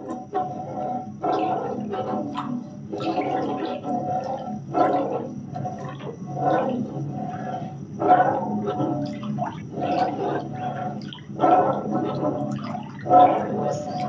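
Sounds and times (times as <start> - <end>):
wet sloshing stirring in a pan: 0.0 - 14.0.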